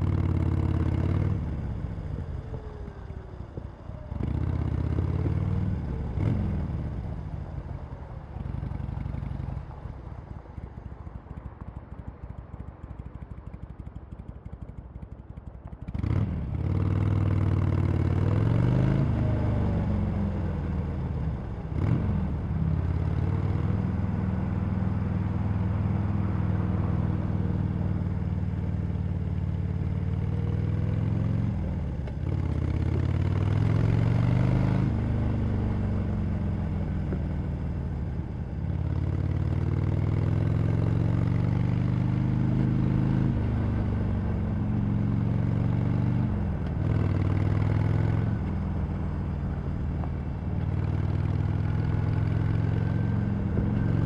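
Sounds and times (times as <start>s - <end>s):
motorcycle engine accelerating: 0.0s - 7.4s, 15.9s - 54.0s.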